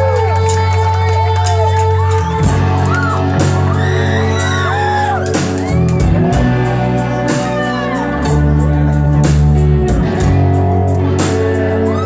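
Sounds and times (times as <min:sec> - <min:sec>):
bass guitar: 0:00.0 - 0:12.0
lead singer: 0:00.0 - 0:12.0
live rock band playing: 0:00.0 - 0:12.0.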